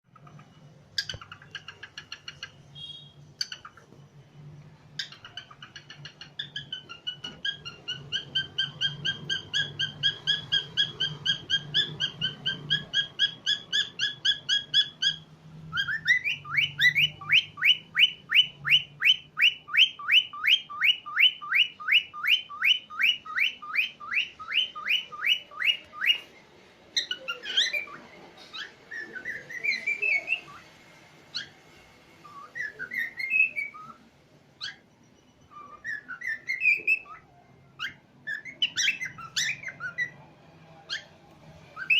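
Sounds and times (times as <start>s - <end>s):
cockatiels chirping and whistling: 0.1s - 4.0s, 4.8s - 41.9s.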